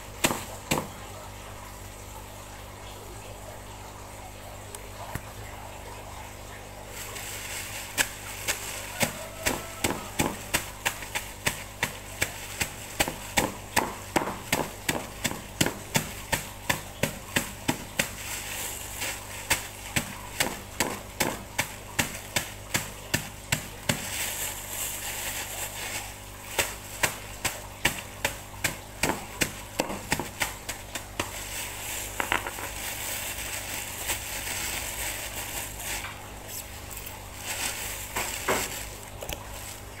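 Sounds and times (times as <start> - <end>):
plastic bag crinkling: 6.8 - 40.0.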